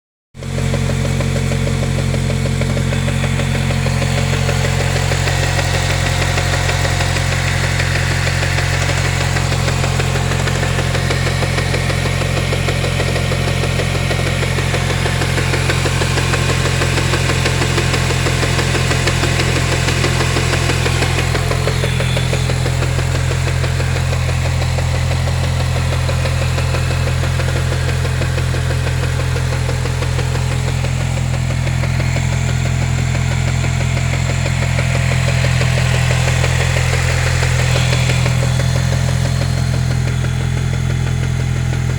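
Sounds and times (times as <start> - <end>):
car engine idling with knocking: 0.4 - 41.9.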